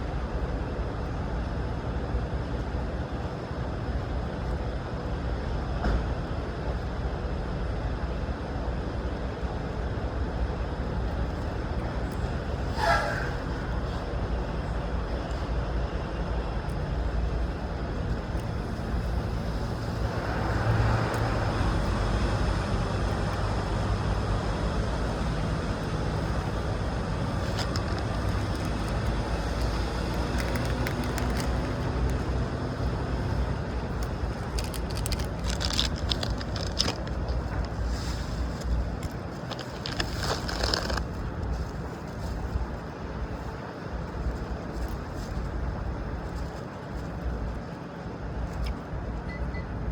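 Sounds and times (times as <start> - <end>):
vehicle engine and traffic rumble: 0.0 - 49.9.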